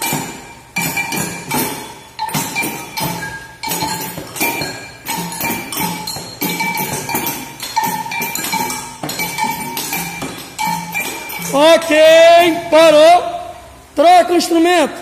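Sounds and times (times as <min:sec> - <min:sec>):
jingles: 0:00.0 - 0:13.1
ringing metal bell: 0:00.0 - 0:13.2.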